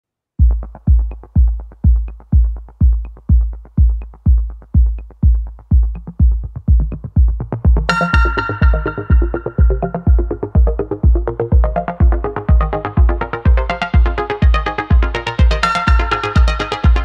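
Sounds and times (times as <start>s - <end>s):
electronic dance music: 0.4s - 17.0s
synthesizer chords: 0.4s - 17.0s.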